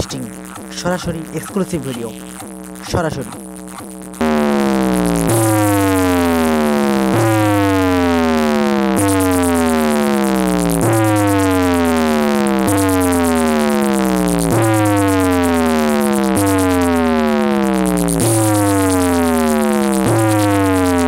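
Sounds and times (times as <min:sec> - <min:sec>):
falling synth sweep: 0:00.0 - 0:21.0
steady bass note: 0:00.0 - 0:21.0.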